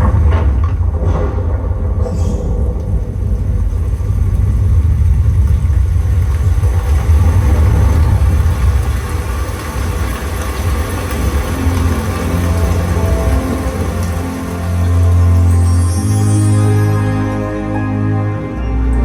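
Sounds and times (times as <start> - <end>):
deep bass rumble: 0.0 - 19.0.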